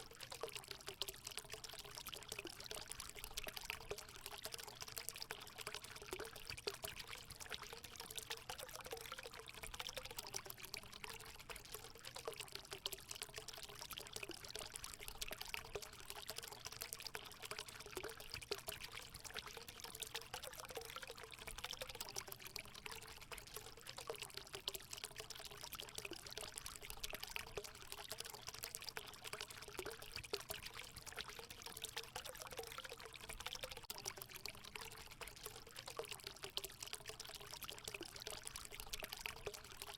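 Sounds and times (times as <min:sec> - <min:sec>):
water pouring into pool: 0:00.0 - 0:39.9.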